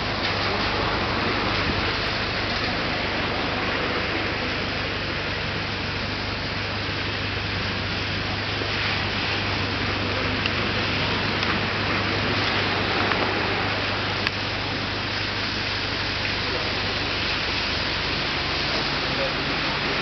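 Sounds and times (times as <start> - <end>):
constant low hum: 0.0 - 20.0
rain on a wet street: 0.0 - 20.0.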